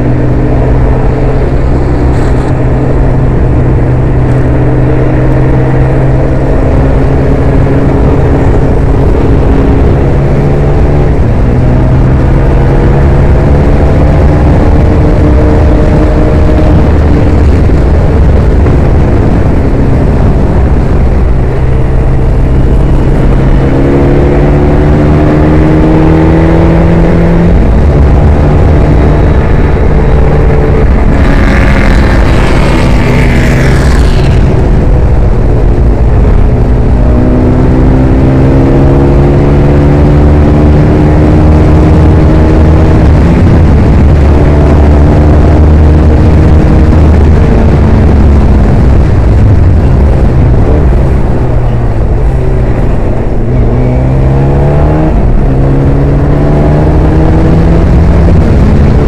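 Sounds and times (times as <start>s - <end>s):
racing car engine: 0.0s - 59.0s.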